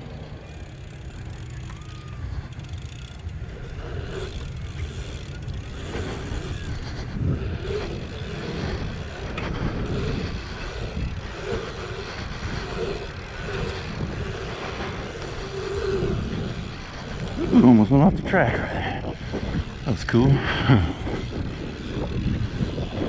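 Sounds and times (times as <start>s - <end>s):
bike tyre rumble: 0.0s - 23.0s
wind rushing over camera: 0.0s - 23.0s.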